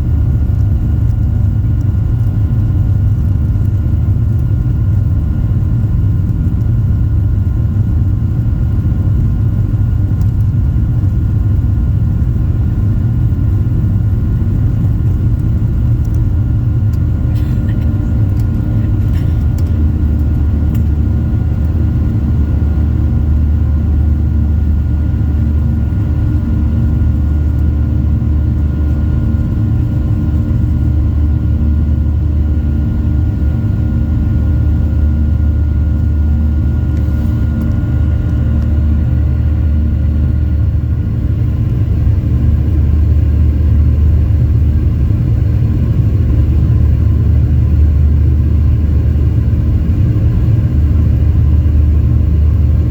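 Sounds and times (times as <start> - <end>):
airliner engines rumbling: 0.0 - 52.9.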